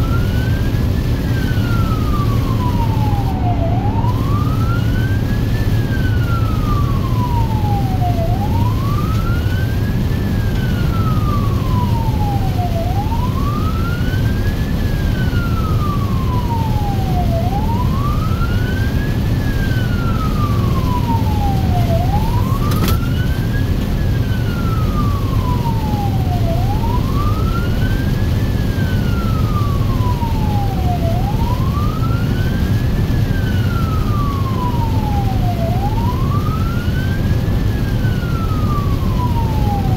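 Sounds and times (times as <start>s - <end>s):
emergency siren wailing: 0.0s - 39.9s
low rumble of moving vehicle: 0.0s - 39.9s.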